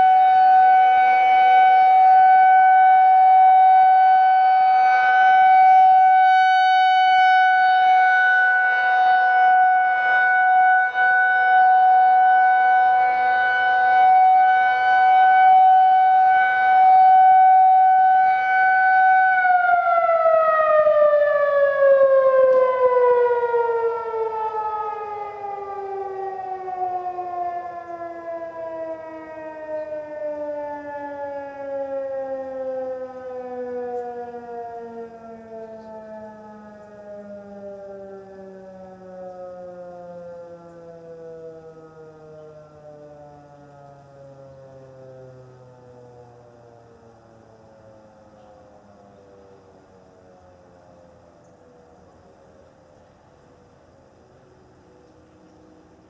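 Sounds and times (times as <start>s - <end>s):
faint lower siren tone: 0.0s - 56.0s
rotating siren steady tone: 0.0s - 56.0s.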